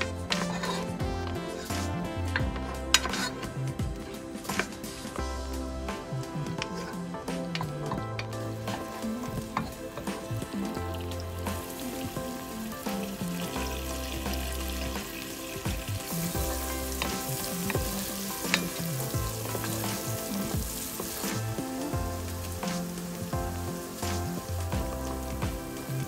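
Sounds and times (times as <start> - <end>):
background music: 0.0 - 26.0
food sizzling in a pan: 0.2 - 26.0.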